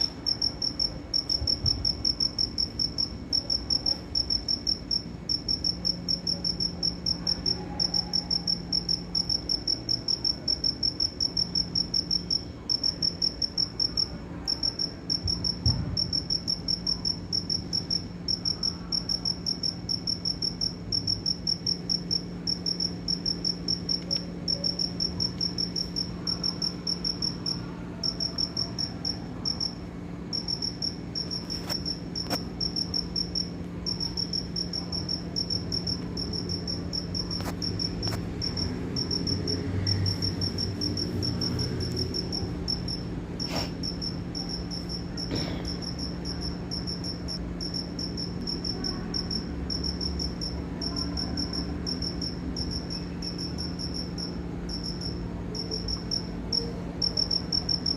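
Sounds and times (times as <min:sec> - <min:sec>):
cricket chirping: 0:00.0 - 0:57.9
faint low hum: 0:00.0 - 0:57.9.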